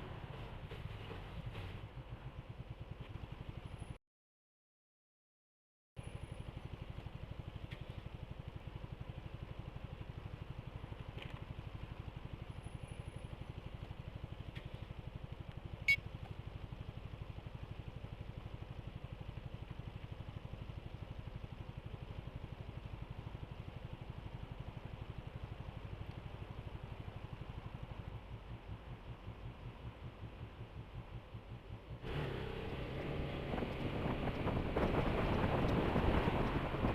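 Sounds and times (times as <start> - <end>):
scooter engine idling: 0.1 - 4.0, 6.0 - 33.2.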